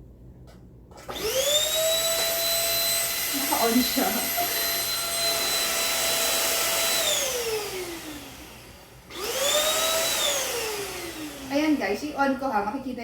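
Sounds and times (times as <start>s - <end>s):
vacuum cleaner motor whining: 1.0s - 12.4s.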